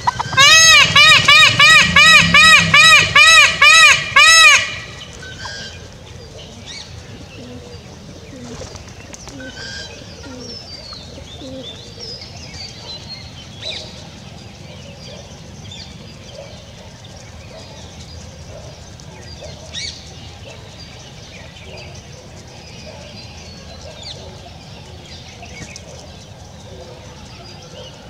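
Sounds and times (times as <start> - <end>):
low coo-like bird calls: 0.0 - 2.6, 4.9 - 28.0.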